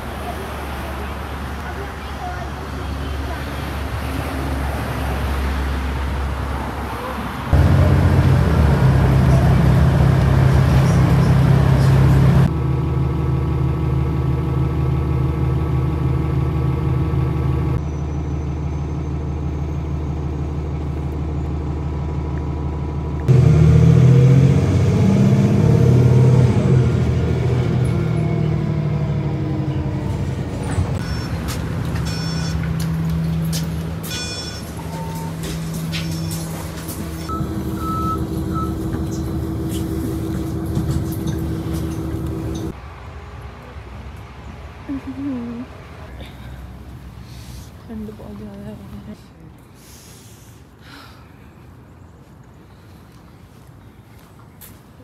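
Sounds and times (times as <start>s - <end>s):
bus engine hum: 0.0s - 50.5s
road traffic: 0.0s - 55.0s.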